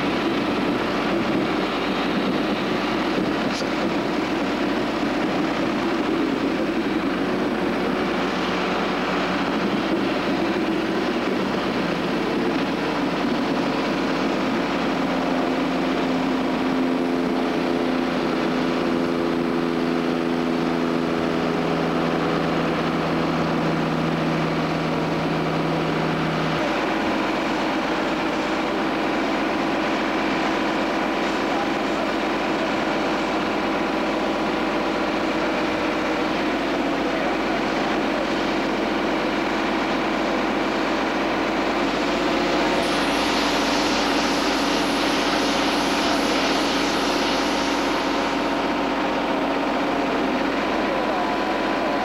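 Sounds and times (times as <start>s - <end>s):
droning engine hum: 0.0s - 52.0s
steam and engine noise: 0.0s - 52.0s.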